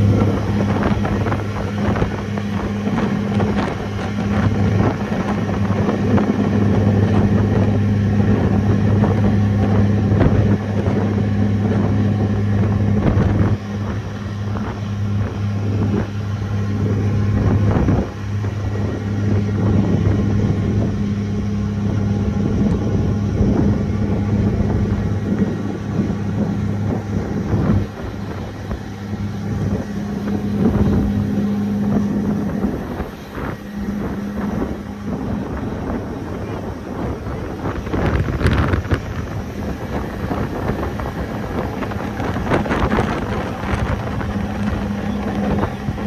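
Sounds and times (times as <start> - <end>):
ship engines humming: 0.0 - 46.0
wind on microphone: 0.0 - 46.0.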